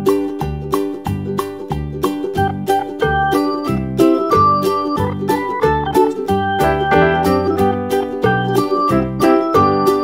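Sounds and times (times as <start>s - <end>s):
plucked-string tune with bouncy beat: 0.0s - 10.0s.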